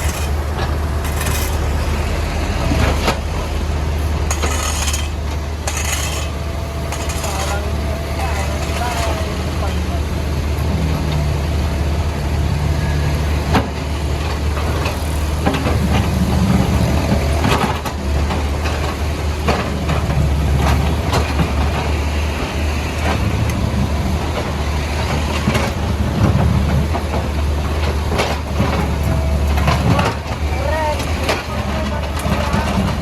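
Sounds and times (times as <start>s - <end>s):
bucket knocking and scraping road: 0.0s - 10.0s, 13.5s - 33.0s
diesel engine running: 0.0s - 33.0s.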